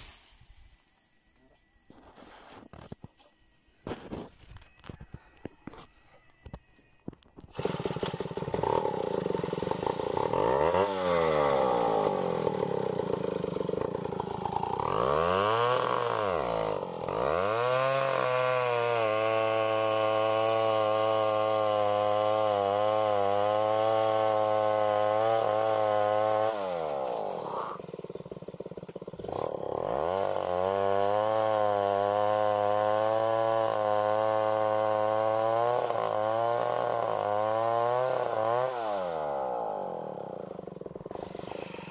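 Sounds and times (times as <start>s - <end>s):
chainsaw revving and cutting wood: 7.5s - 41.9s.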